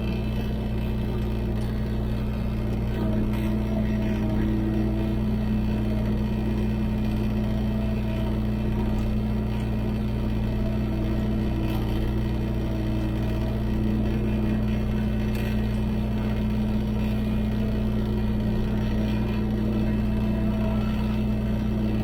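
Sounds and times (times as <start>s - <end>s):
farm machinery engine droning: 0.0s - 22.0s.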